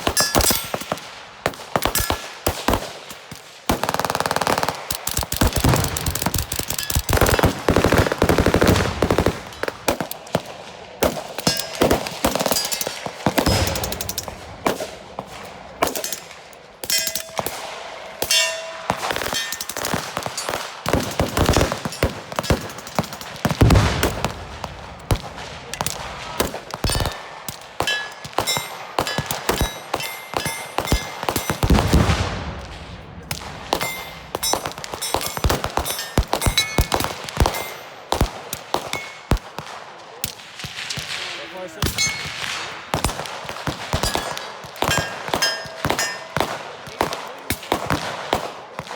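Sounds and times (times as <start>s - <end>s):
rapid rifle shots: 0.0s - 48.9s.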